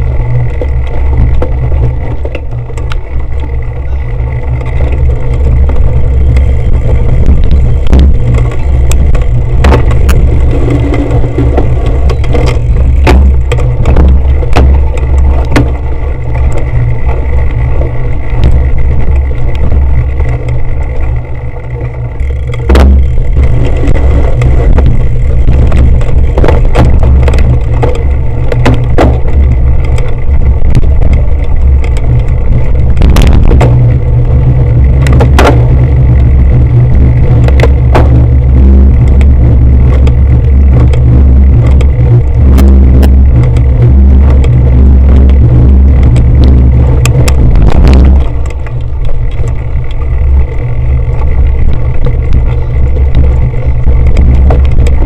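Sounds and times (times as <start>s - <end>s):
bike and camera mount rattling: 0.0s - 55.0s
wind buffeting microphone: 0.0s - 55.0s.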